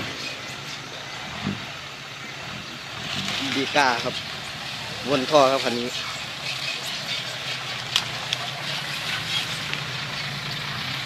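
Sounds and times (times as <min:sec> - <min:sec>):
diesel truck engine hum: 0:00.0 - 0:11.0.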